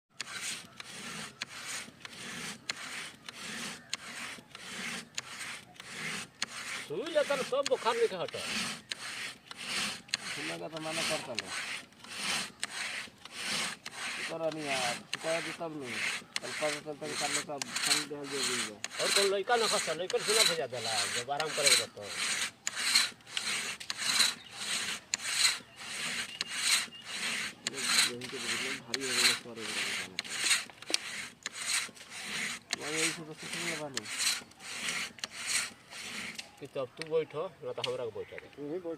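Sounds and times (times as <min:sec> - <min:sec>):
rhythmic rasping strokes: 0:00.1 - 0:37.1.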